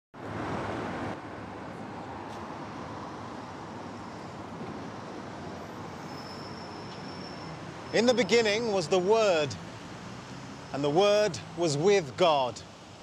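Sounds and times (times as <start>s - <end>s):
city traffic rumble: 0.2s - 13.0s.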